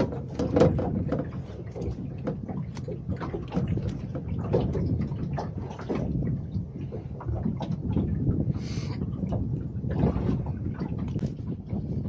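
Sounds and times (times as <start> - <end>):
gusty wind on microphone: 0.0 - 12.0.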